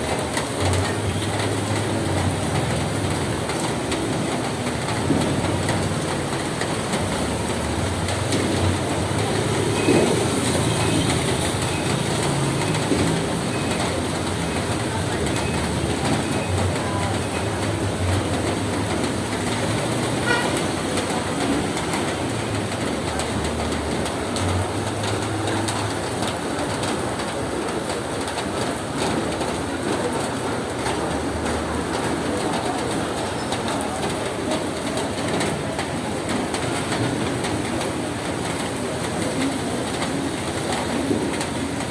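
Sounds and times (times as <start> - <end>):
rain on a roof: 0.0 - 41.9.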